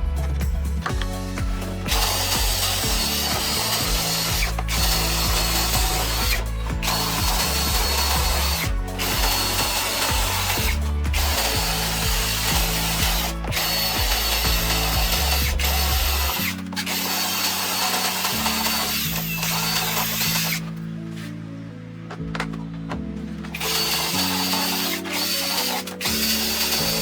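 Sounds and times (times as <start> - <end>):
electric power tool whining: 0.0 - 27.0.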